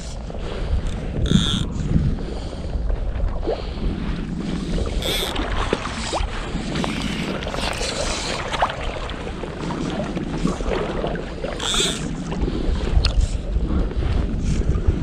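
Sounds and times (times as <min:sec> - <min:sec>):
river water lapping: 0:00.0 - 0:15.0
wind buffeting microphone: 0:00.0 - 0:15.0.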